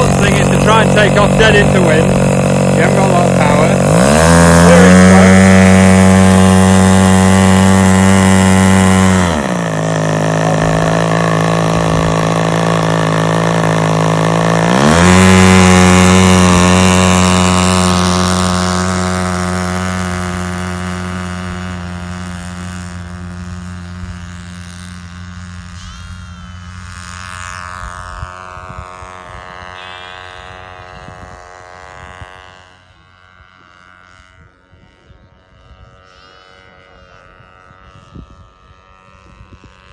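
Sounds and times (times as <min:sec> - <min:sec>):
model aircraft engine buzzing: 0:00.0 - 0:39.9.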